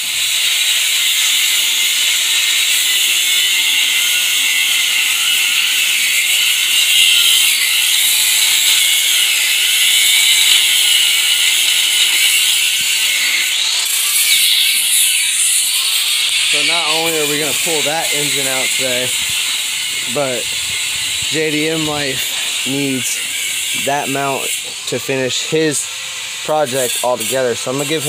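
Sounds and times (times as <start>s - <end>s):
grinder cutting metal: 0.0s - 28.0s.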